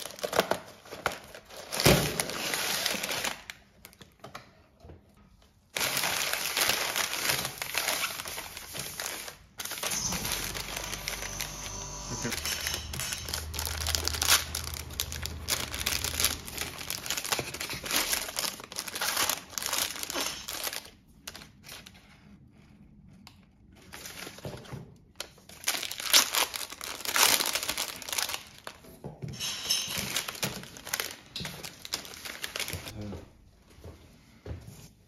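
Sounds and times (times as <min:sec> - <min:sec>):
ice cream wrappers crinkling and tearing: 0:00.0 - 0:04.2, 0:05.7 - 0:11.5, 0:12.2 - 0:22.3, 0:23.3 - 0:28.9, 0:29.9 - 0:32.9.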